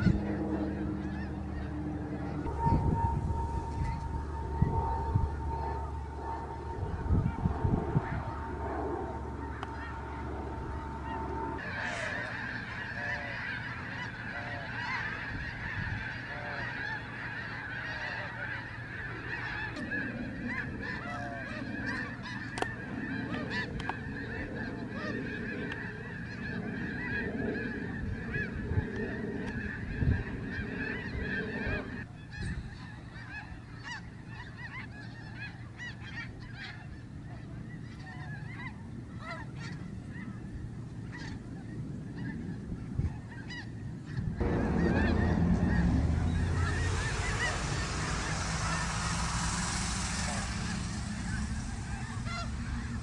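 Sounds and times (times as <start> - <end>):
flock of geese honking: 0.0 - 53.0.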